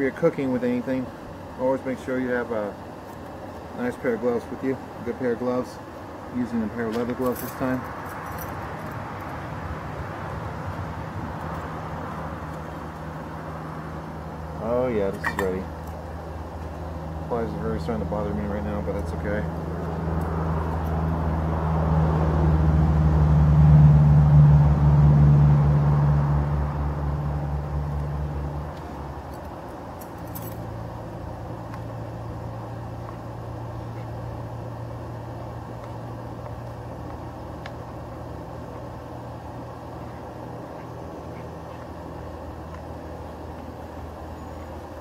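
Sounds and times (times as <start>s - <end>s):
vehicle engine humming: 0.0s - 45.0s.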